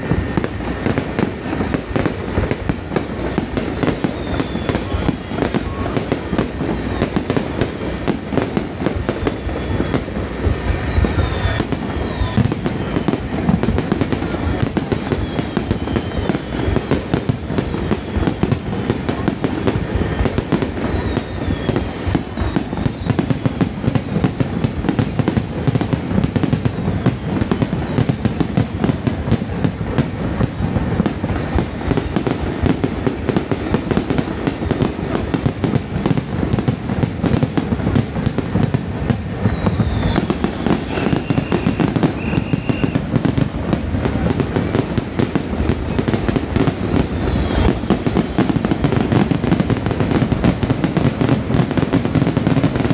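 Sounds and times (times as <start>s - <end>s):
fireworks barrage: 0.0s - 52.9s.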